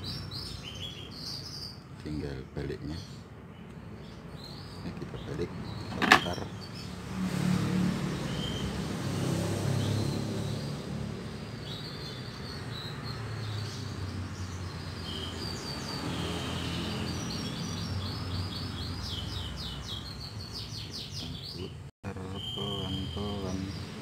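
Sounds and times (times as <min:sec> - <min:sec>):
canaries chirping and trilling: 0:00.0 - 0:24.0.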